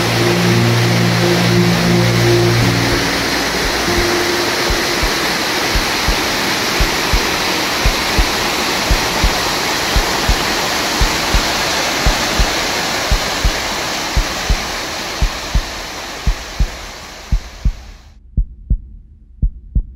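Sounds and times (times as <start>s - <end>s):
waterfall rushing: 0.0s - 18.1s.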